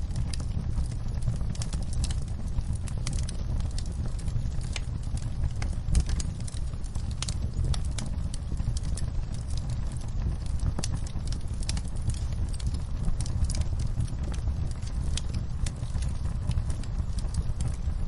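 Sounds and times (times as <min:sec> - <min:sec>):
burning wood crackling and popping: 0:00.0 - 0:18.0
low rumble of flame: 0:00.0 - 0:18.0.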